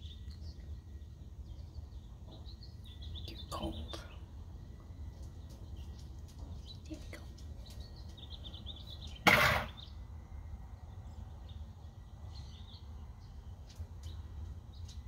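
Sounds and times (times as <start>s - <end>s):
faint bird chirping: 0.0s - 15.0s
low outdoor background: 0.0s - 15.0s.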